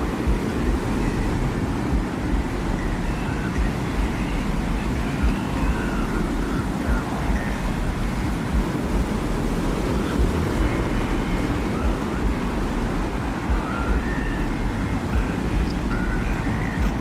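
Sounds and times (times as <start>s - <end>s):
low rush of wind: 0.0s - 17.0s
faint thin whistling tones: 0.2s - 17.0s.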